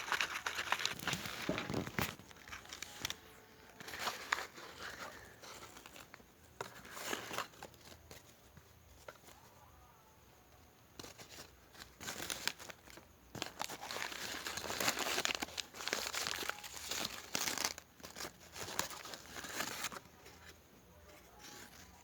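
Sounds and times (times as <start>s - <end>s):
packaging crinkling and rustling: 0.0s - 8.3s, 11.0s - 20.5s.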